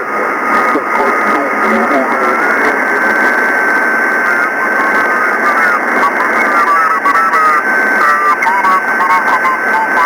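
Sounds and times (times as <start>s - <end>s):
faint warbling radio station: 0.0s - 10.0s
radio receiver hiss: 0.0s - 10.0s.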